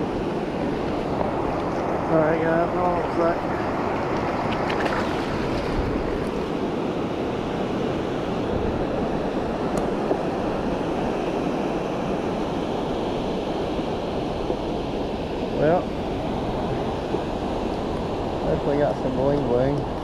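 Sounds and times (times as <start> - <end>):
ocean surf washing over sand: 0.0 - 20.0
wind on microphone: 0.0 - 20.0.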